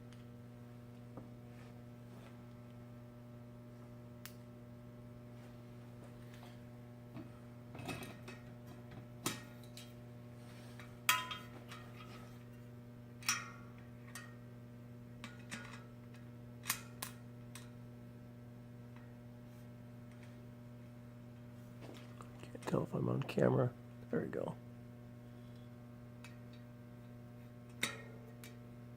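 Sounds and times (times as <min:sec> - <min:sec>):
steady electrical hum: 0:00.0 - 0:28.9.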